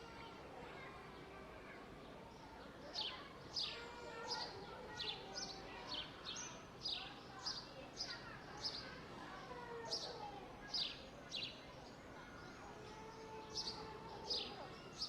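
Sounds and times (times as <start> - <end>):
murmur of distant voices: 0.0 - 15.0.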